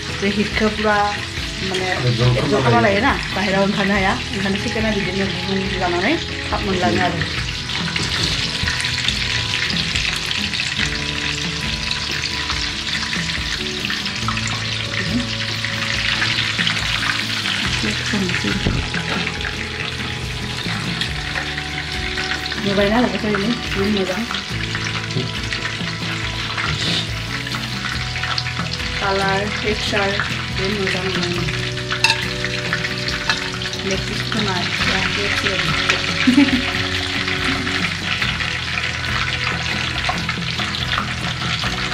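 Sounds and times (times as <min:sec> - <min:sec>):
chicken deep-frying in oil: 0:00.0 - 0:41.9.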